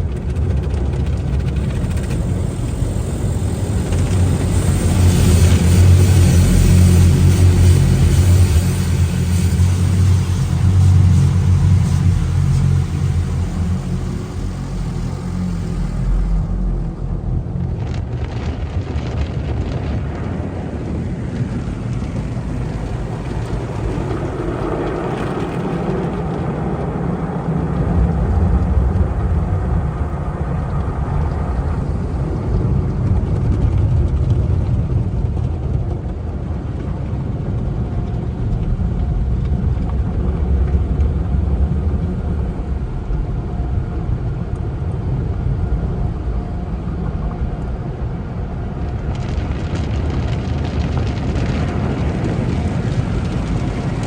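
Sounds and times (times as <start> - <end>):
car wash machinery rumbling: 0.0 - 54.0.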